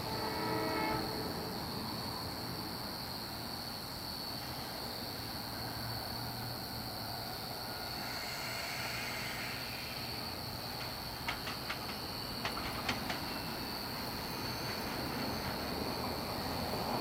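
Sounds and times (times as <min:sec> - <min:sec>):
crickets trilling: 0:00.0 - 0:17.0
faint hiss of electric train: 0:00.0 - 0:17.0.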